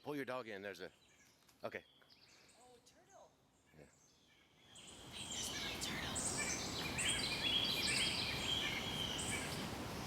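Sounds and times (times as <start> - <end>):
background hiss: 0.0 - 10.0
small birds chirping: 0.1 - 10.0.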